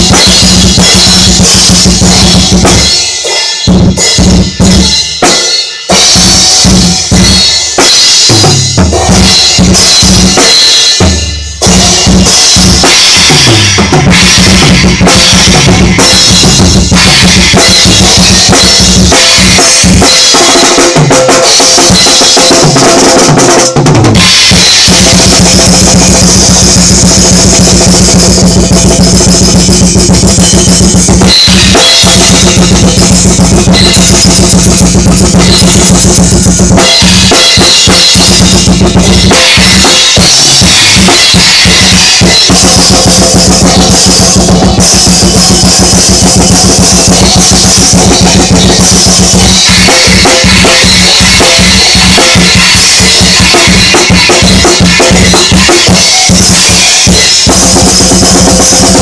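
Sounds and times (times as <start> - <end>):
cymbal crashes: 0.0 - 22.8, 24.2 - 59.0
fast loud drum solo: 0.0 - 59.0.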